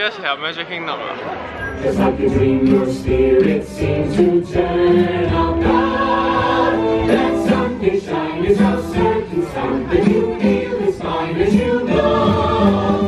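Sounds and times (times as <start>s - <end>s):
backing music: 1.4s - 13.0s
group singing in chorus: 1.6s - 13.0s.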